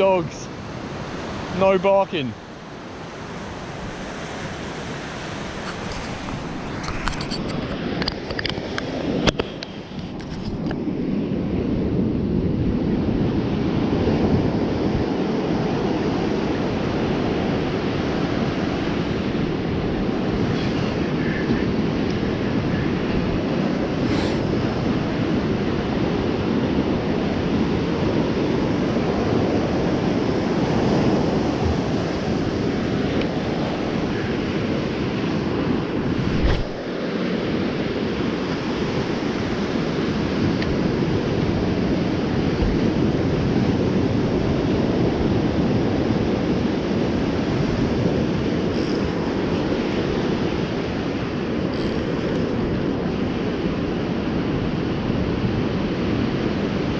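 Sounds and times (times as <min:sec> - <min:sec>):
surf breaking on sandy beach: 0:00.0 - 0:56.9
wind buffeting microphone: 0:02.4 - 0:56.9.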